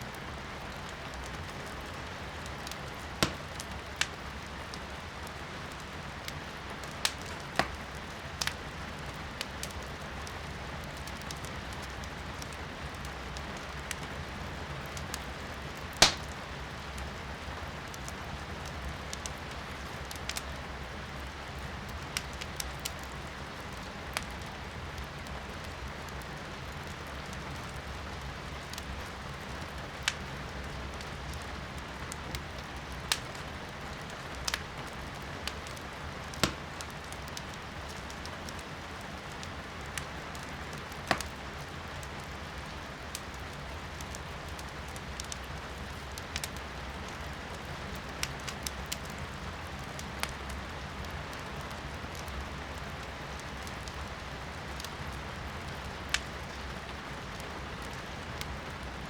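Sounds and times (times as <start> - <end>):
firewood crackling in fireplace: 0.0 - 59.0
rain heard from indoors: 0.0 - 59.0.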